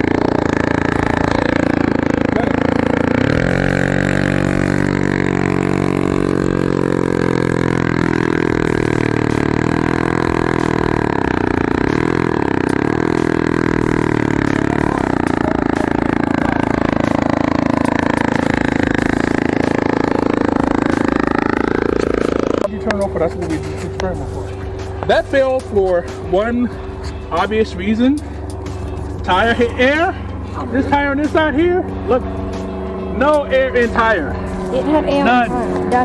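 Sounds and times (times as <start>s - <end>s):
small quad engine revving: 0.0s - 36.0s.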